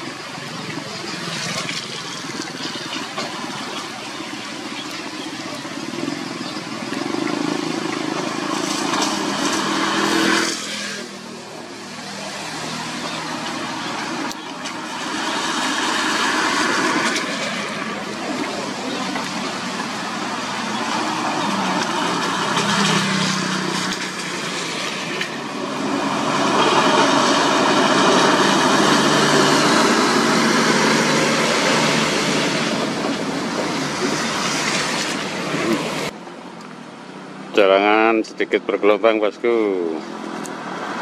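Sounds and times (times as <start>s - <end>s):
truck engine passing: 0.0s - 36.2s
tyres hissing on wet road: 0.0s - 38.0s, 39.8s - 41.0s
motorcycles and cars passing: 0.0s - 41.0s.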